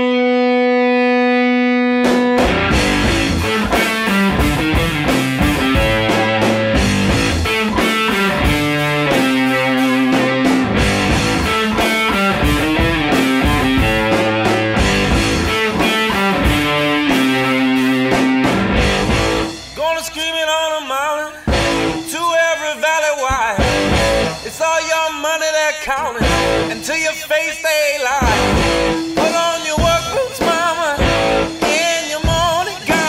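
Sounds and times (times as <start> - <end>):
rock song with electric guitar: 0.0 - 33.0.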